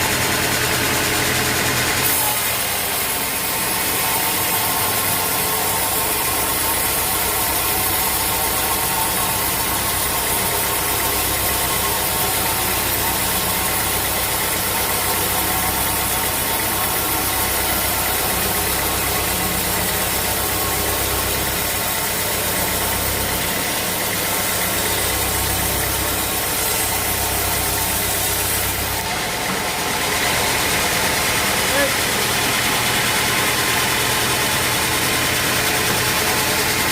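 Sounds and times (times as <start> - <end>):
sawmill machinery droning: 0.0 - 36.9.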